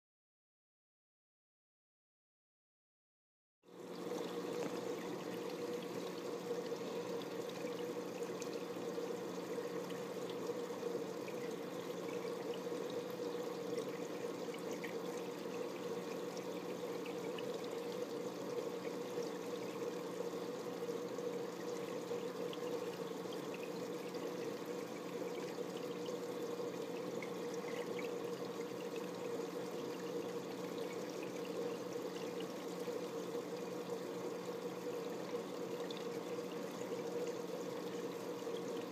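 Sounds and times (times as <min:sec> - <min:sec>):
aquarium water trickling: 0:03.7 - 0:38.9
low equipment hum: 0:03.7 - 0:38.9.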